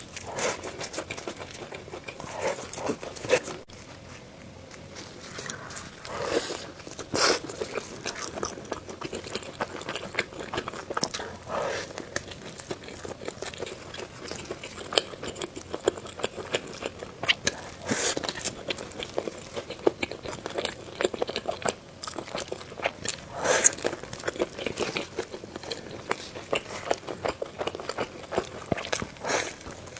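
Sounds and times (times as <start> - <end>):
person chewing crunchy food: 0.0 - 29.9.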